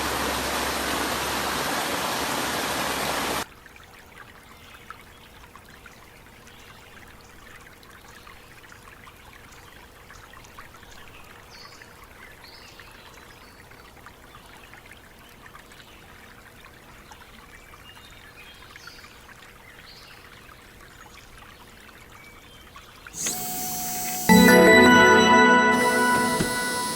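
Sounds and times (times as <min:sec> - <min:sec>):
stream water trickling and splashing: 0:00.0 - 0:23.1.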